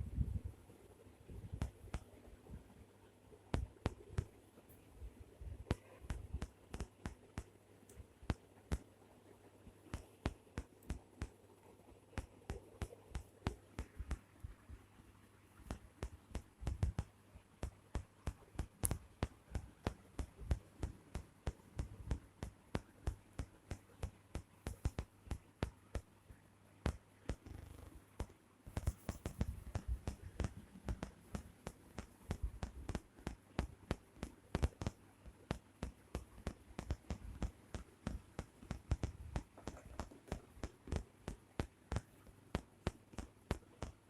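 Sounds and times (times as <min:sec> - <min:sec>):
faint low hum: 0:00.0 - 0:44.0
sharp clicks and soft knocks: 0:03.5 - 0:04.8, 0:05.6 - 0:08.9, 0:09.8 - 0:14.6, 0:15.6 - 0:26.1, 0:26.8 - 0:44.0.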